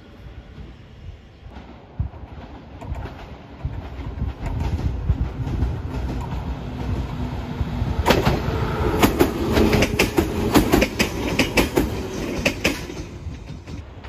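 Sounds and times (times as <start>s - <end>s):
electric train rumbling: 0.0s - 14.0s
wheels clacking over rail joints: 1.4s - 14.0s.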